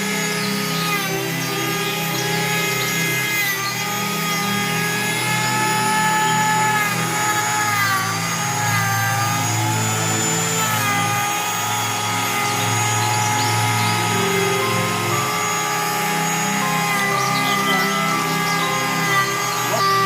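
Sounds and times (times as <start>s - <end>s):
woodworking power tool whining: 0.0s - 20.0s.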